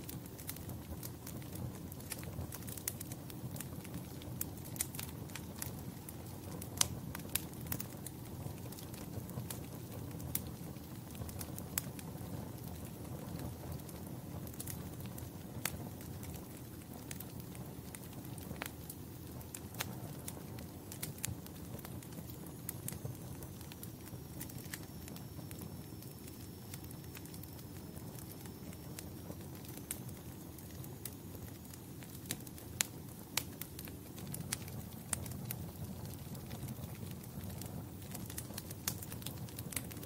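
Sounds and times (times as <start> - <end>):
fire pops and snaps: 0.0 - 40.0
low rumble of flames: 0.0 - 40.0.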